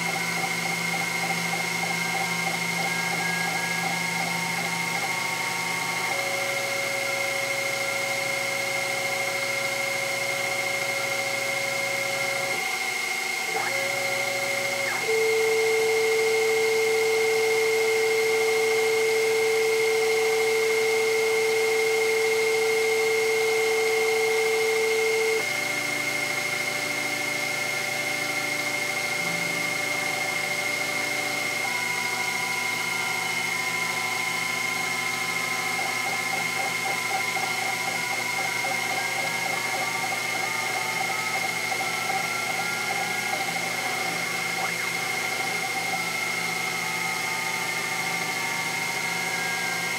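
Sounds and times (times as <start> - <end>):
milling machine motor whine: 0.0 - 49.9
stepper motor tones: 0.0 - 49.9.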